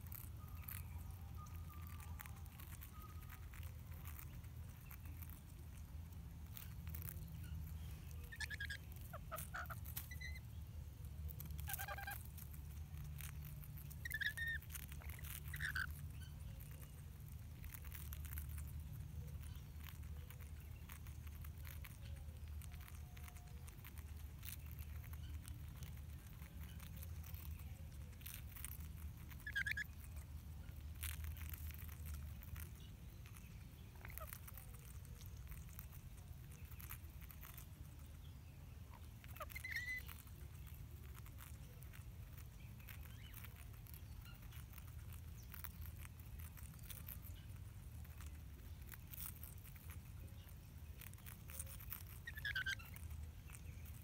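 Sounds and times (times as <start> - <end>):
parrots chirping: 0.0 - 10.6, 11.2 - 54.0
low steady rumble: 0.0 - 54.0.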